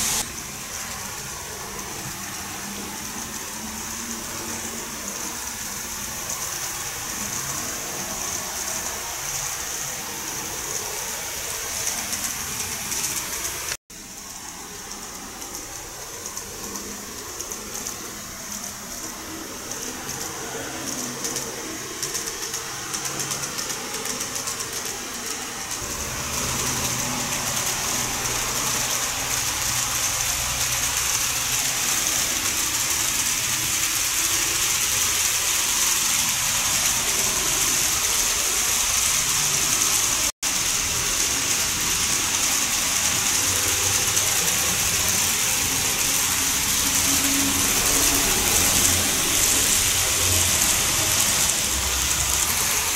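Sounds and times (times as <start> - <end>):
model train motor whine: 0.0 - 52.9
small wheels rattling on rails: 0.0 - 52.9.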